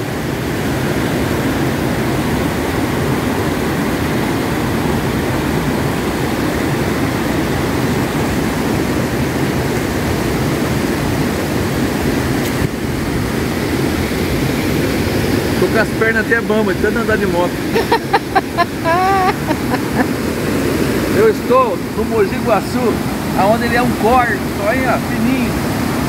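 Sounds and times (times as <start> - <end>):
river water rushing over a weir: 0.0 - 26.0.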